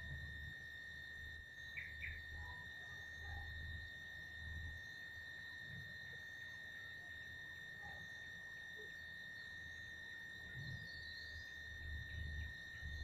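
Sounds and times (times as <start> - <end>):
faint high-pitched drone: 0.0 - 13.0.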